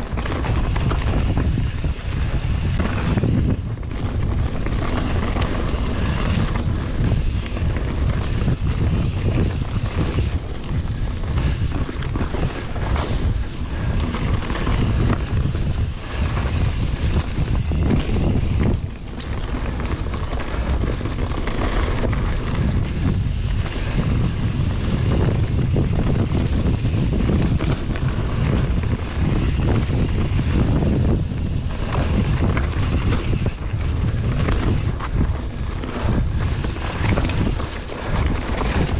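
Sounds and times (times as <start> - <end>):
bike knocks and rattles: 0.0 - 38.9
tyres rolling on dirt: 0.0 - 38.9
wind buffeting microphone: 0.0 - 38.9.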